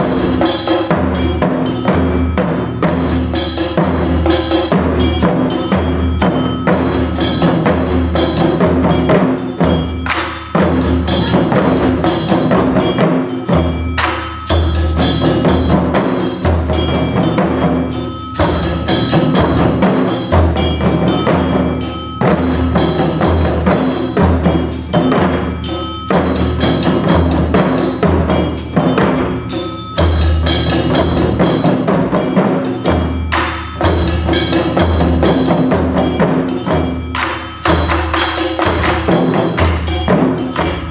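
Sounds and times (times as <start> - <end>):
taiko drum music: 0.0 - 40.9.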